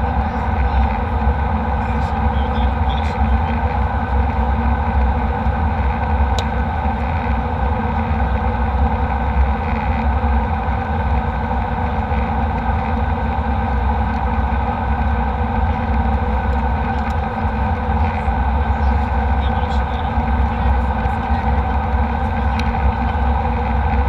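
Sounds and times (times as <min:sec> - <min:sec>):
jet airliner cabin engine drone: 0:00.0 - 0:24.0.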